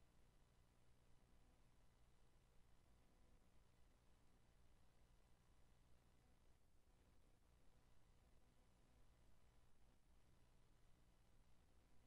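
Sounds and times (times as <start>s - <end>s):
faint hum and hiss: 0.0s - 12.0s.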